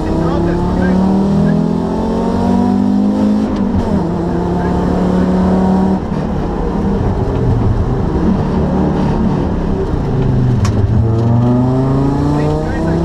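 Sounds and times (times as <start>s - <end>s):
rally car engine revving: 0.0s - 13.0s
road and tyre noise: 0.0s - 13.0s.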